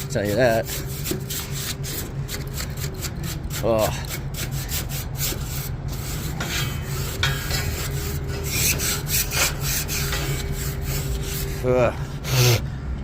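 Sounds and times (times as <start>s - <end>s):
brush scrubbing metal fins: 0.0s - 12.6s.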